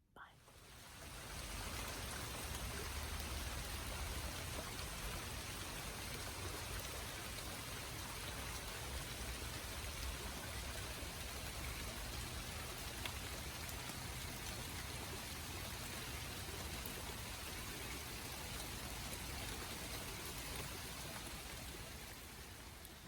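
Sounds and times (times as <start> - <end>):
steady rain: 0.3 - 23.0
faint raindrop ticks: 0.4 - 23.0.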